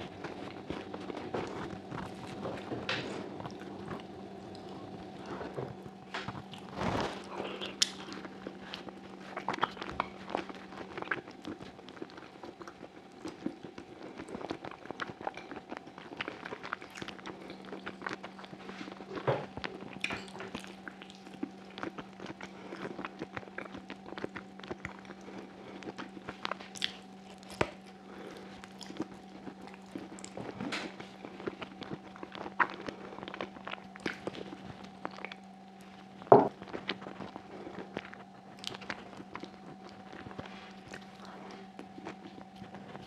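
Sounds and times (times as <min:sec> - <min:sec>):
chewing meat off the bone: 0:00.0 - 0:43.0
faint steady hum: 0:00.0 - 0:43.0.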